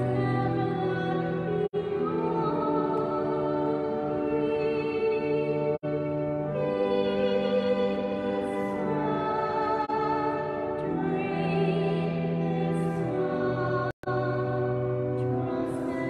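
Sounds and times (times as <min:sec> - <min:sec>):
sustained organ chords: 0:00.0 - 0:16.0.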